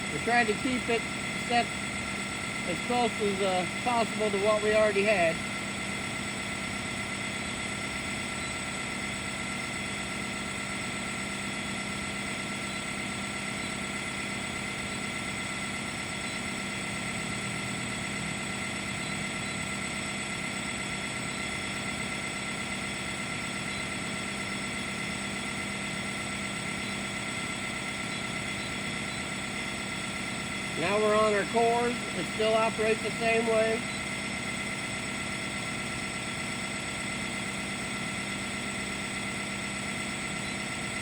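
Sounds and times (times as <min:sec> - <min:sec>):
machine drone: 0:00.0 - 0:41.0.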